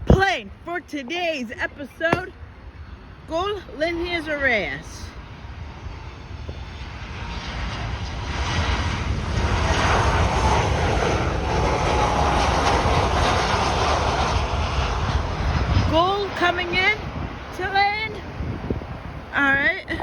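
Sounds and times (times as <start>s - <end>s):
faint engine whine: 0.0s - 20.0s
jet airliner engine rumble: 0.0s - 20.0s.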